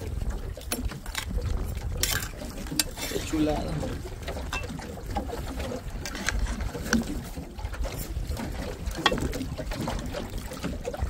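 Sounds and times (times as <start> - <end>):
water lapping at a hull: 0.0 - 11.0
wind rumble on microphone: 0.0 - 11.0.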